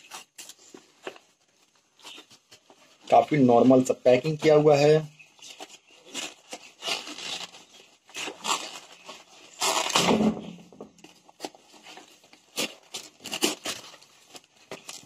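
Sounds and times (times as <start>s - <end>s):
paper ripping and crinkling: 0.0s - 3.8s, 4.4s - 15.0s
sharp paper crackles: 0.0s - 15.0s.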